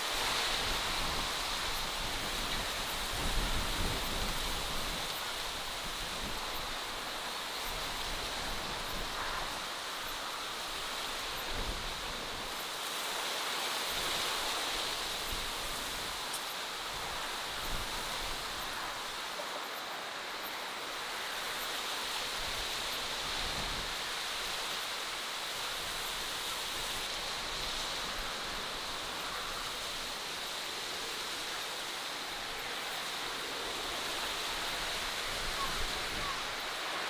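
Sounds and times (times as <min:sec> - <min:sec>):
rushing hiss outdoors: 0:00.0 - 0:37.0.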